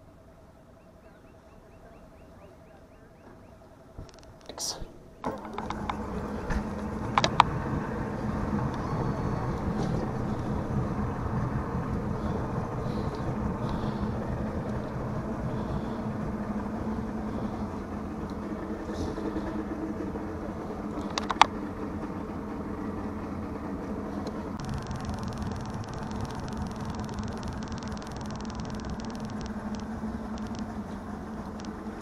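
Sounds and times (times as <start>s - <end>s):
outboard motor idling: 0.0s - 32.0s.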